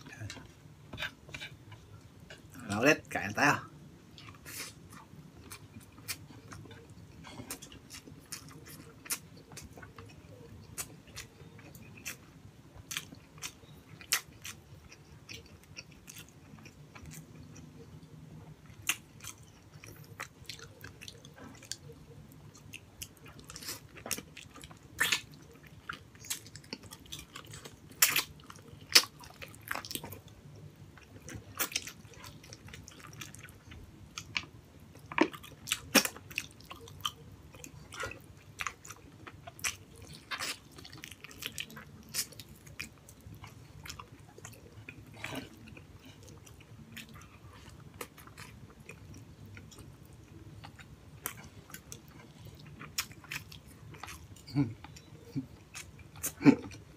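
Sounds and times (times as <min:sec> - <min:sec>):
person chewing: 0:04.2 - 0:30.4, 0:31.0 - 0:56.9.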